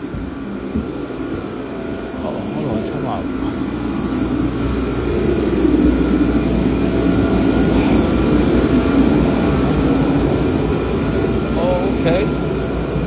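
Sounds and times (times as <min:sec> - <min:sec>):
faint humming tones: 0:00.0 - 0:13.0
low machine drone: 0:00.0 - 0:13.0.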